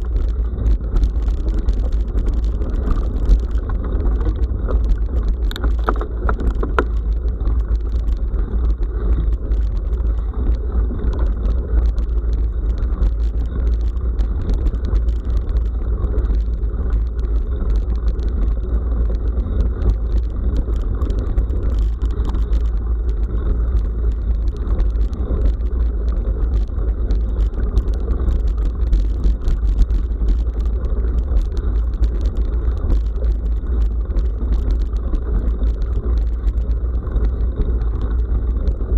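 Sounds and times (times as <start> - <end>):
bicycle rattling and clicking: 0.0 - 38.9
wind rumble on microphone: 0.0 - 38.9.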